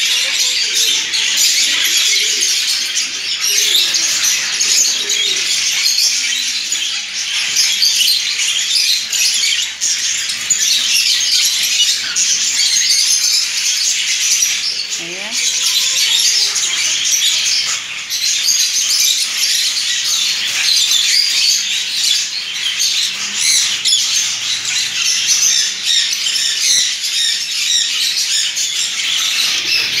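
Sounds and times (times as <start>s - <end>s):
budgerigars chattering and squawking: 0.0s - 30.0s.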